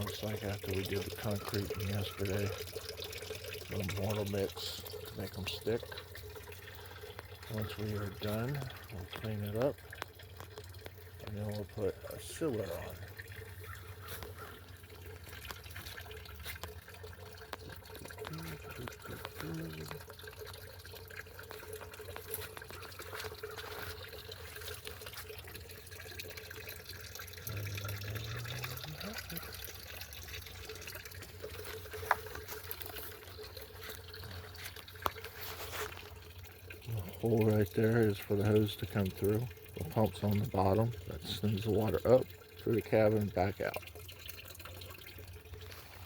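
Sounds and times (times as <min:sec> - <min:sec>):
fountain water trickling: 0:00.0 - 0:46.0
water drips: 0:00.0 - 0:46.0.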